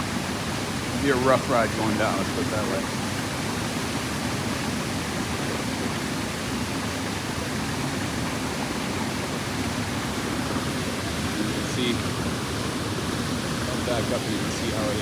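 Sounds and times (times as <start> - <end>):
waterfall pouring into pool: 0.0 - 15.0.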